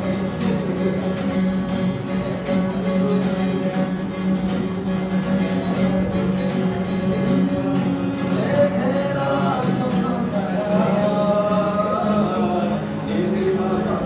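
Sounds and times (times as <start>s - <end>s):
acoustic guitar strumming: 0.0s - 14.0s
man singing: 0.0s - 14.0s.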